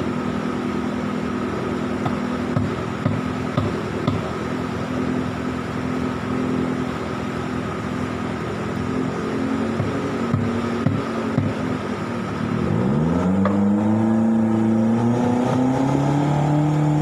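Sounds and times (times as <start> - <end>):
boat engine running steadily: 0.0 - 14.8.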